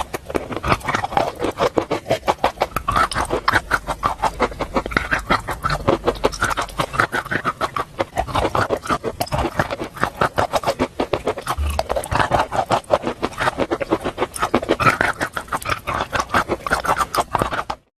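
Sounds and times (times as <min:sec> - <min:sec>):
crunchy chewing: 0:00.0 - 0:17.9.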